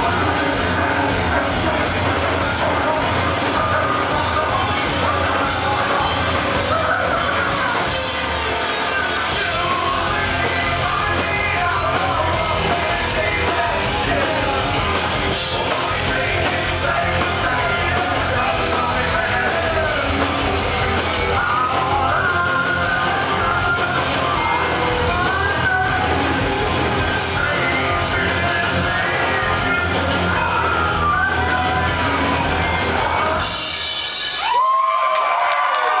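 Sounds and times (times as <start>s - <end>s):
rock band playing live: 0.0s - 36.0s
singer yelling and singing: 0.0s - 36.0s.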